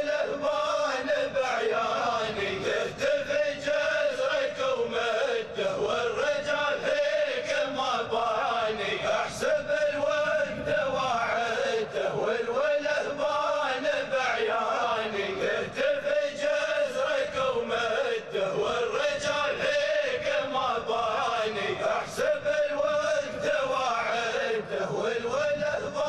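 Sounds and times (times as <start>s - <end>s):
men chanting a melody: 0.0s - 26.0s.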